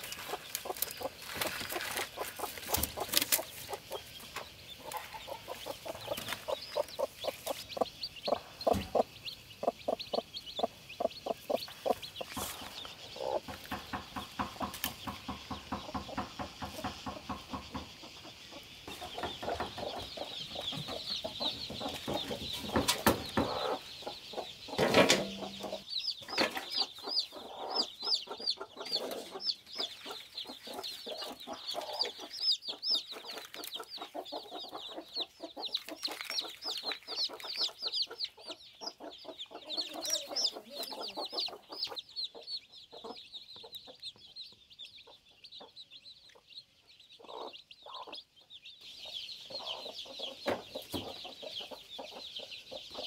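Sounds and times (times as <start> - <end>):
chicks peeping: 0.0 - 53.0
hen clucking: 0.0 - 53.0.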